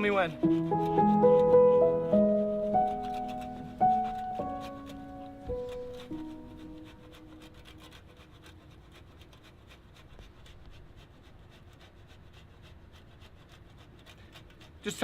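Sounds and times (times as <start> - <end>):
cheese being grated: 0.0 - 15.0.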